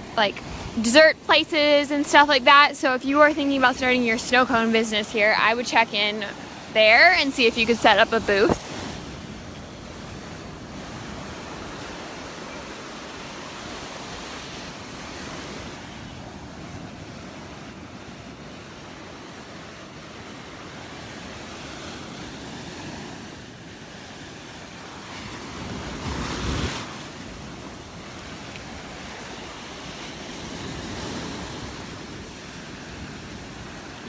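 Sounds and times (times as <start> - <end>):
wind buffeting microphone: 0.0 - 19.0, 24.8 - 34.0
surf washing onto sand: 0.0 - 34.0.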